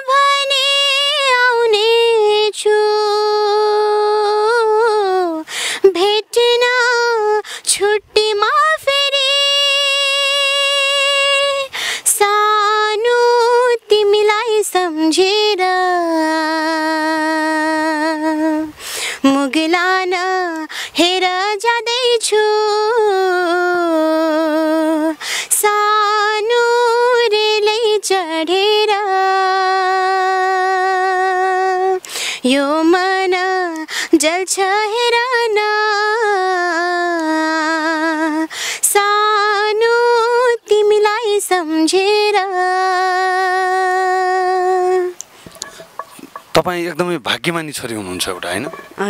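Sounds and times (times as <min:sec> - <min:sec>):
woman singing unaccompanied: 0:00.0 - 0:46.5.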